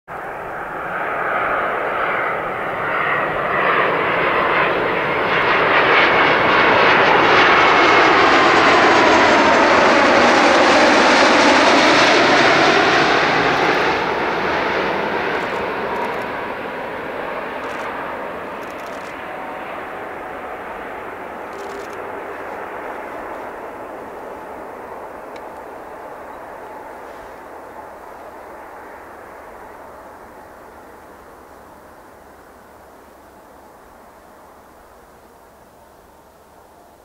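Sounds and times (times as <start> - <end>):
jet plane passing overhead: 0.1 - 37.0.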